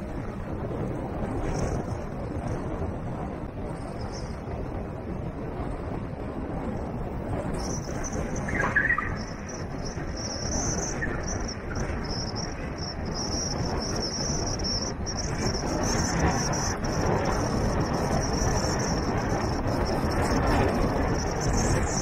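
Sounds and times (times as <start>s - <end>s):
tyre and wind noise: 0.0s - 22.0s.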